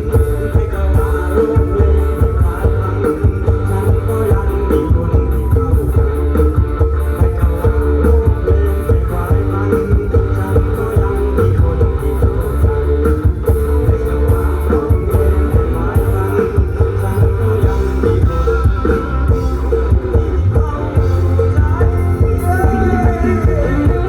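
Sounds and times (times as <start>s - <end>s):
rock band music: 0.0s - 24.0s.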